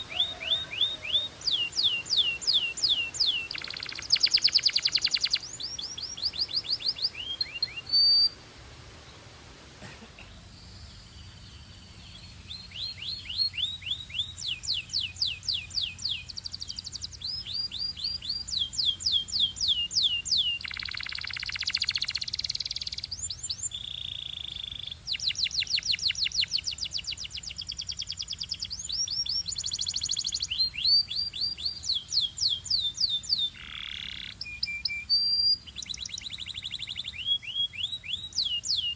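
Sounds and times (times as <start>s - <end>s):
canary singing trills: 0.0s - 8.4s, 10.4s - 38.9s.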